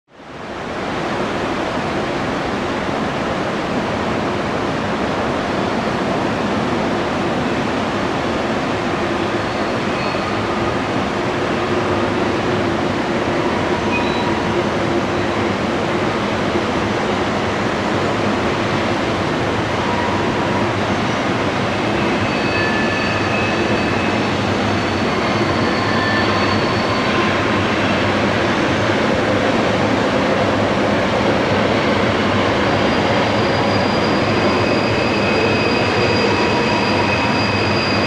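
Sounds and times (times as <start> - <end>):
freight train rolling past: 0.5 - 38.0.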